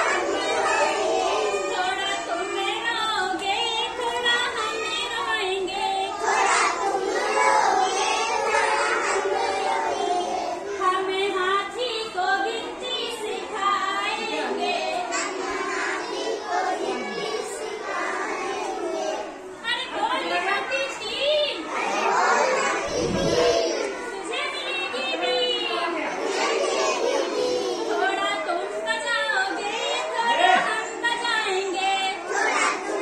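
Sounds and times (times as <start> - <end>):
children singing in chorus: 0.0 - 19.6, 21.6 - 28.9, 29.5 - 33.0.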